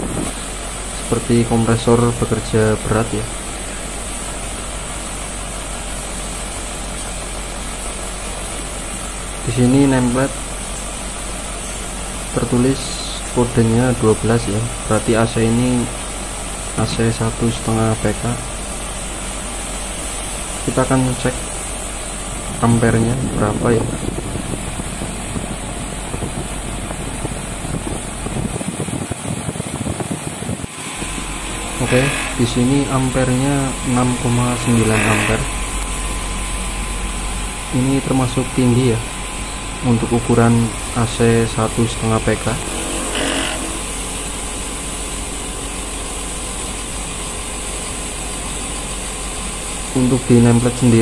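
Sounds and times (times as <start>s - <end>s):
air conditioner compressor snoring: 0.0s - 51.0s.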